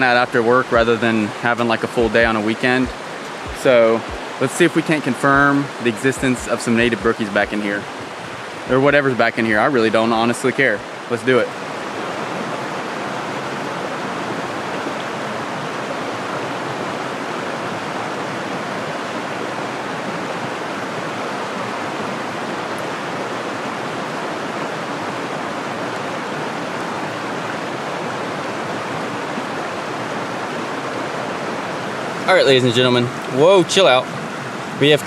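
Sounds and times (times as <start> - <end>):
creek running over stones: 0.0 - 35.0.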